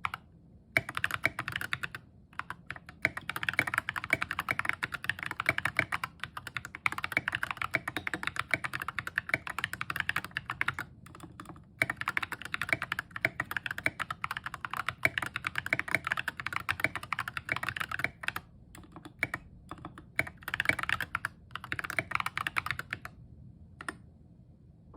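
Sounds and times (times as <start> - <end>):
fast mechanical keyboard typing: 0.0 - 0.2, 0.8 - 23.1.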